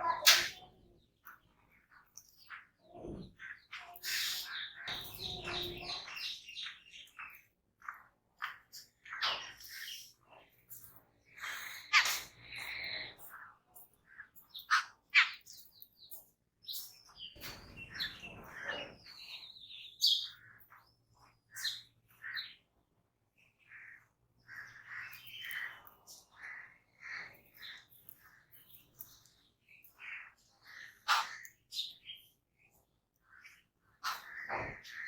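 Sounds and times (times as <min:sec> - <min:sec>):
birds chattering and chirping: 0:00.0 - 0:35.0.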